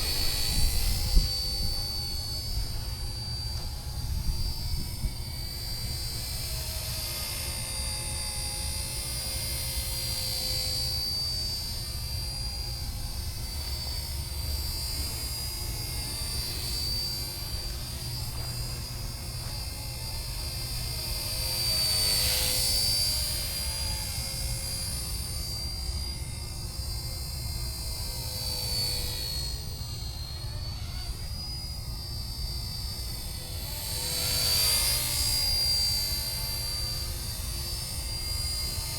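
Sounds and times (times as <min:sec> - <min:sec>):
model helicopter whine: 0:00.0 - 0:38.9.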